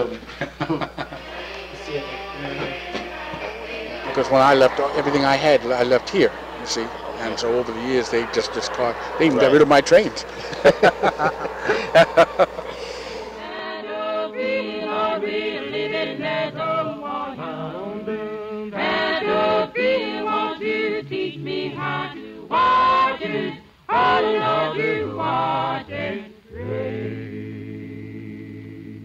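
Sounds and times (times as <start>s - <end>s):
choir singing: 0.8s - 29.0s.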